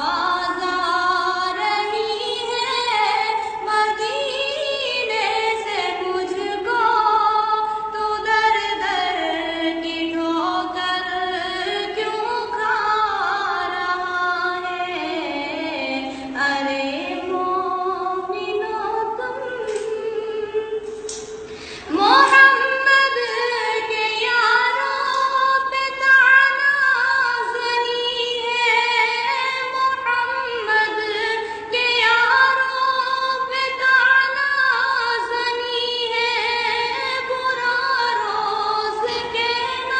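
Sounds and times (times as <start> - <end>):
girl singing unaccompanied: 0.0 - 21.3, 21.9 - 39.9.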